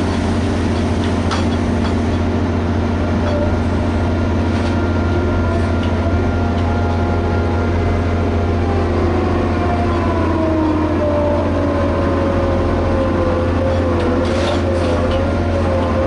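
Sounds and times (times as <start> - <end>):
diesel engine deep hum: 0.0 - 16.0.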